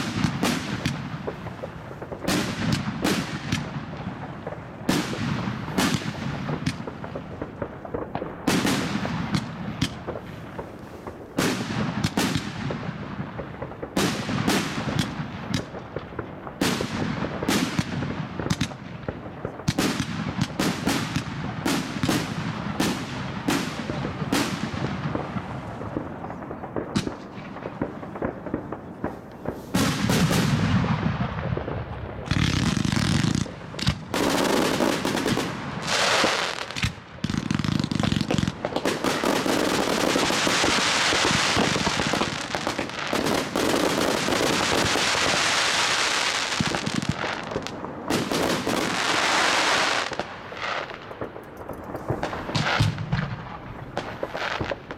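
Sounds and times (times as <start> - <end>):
fireworks launching and bursting: 0.0 - 54.9.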